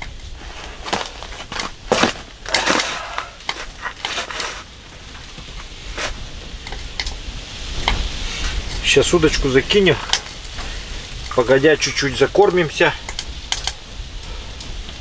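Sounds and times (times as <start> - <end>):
crunching and crackling: 0.0 - 15.0.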